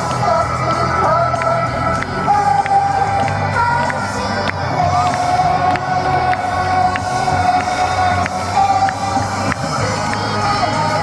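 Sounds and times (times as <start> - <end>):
crowd cheering: 0.0 - 11.0
upbeat pop song: 0.0 - 11.0.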